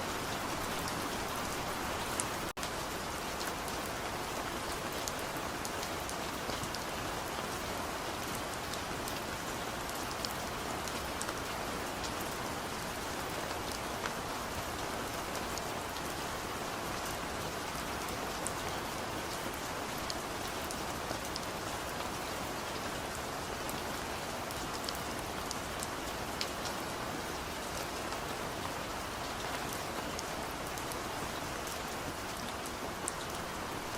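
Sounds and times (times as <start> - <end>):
rain pattering on hard surface: 0.0 - 33.9.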